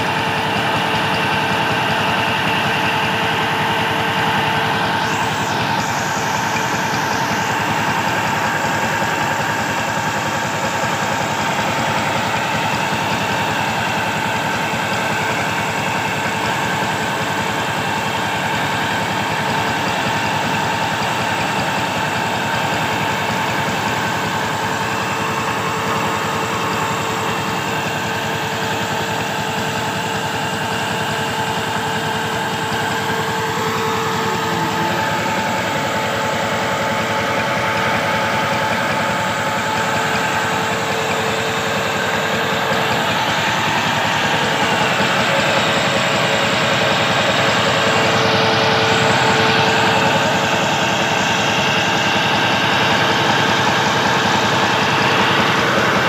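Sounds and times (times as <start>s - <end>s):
diesel engine running steadily: 0.0s - 56.0s
water gushing from pipe: 0.0s - 56.0s.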